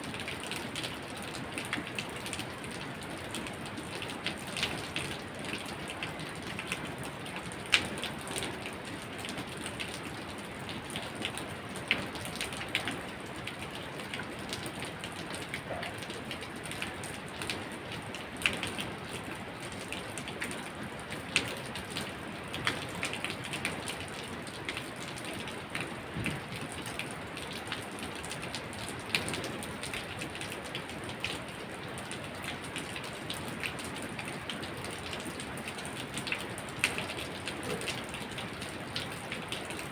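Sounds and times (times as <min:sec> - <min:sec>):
steady rain falling: 0:00.0 - 0:39.9
raindrops tapping on a surface: 0:00.1 - 0:39.9.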